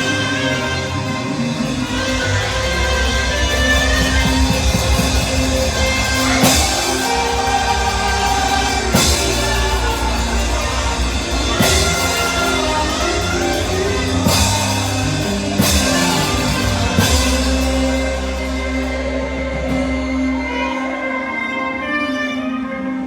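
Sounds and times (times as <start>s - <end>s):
cymbal crashes: 0.0s - 21.2s
live band music: 0.0s - 23.0s.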